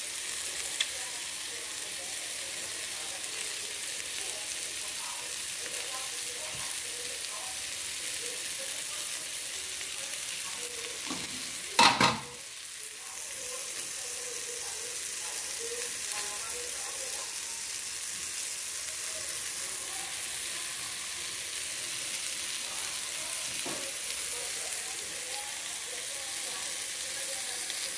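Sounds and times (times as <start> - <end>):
food sizzling in a pot: 0.0 - 27.9.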